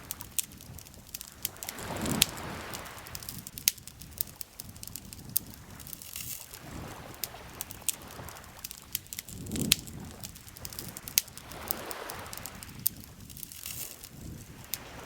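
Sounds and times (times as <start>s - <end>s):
campfire crackling and popping: 0.0s - 15.0s
small waves lapping shore: 0.0s - 15.0s.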